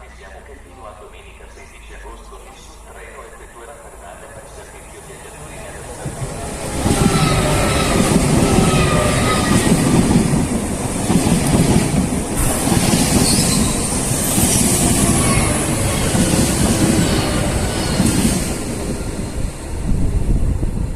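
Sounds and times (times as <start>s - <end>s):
train wheels rattling on rails: 2.2s - 20.9s.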